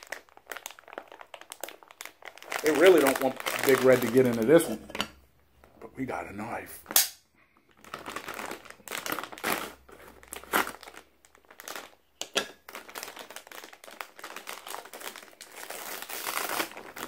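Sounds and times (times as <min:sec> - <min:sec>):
chip bag crinkling: 0:00.0 - 0:04.8, 0:07.6 - 0:17.0.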